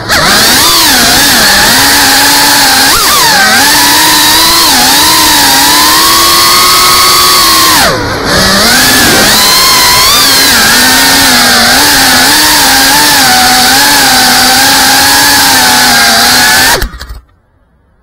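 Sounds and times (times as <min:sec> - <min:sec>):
drone propellers buzzing: 0:00.0 - 0:17.3.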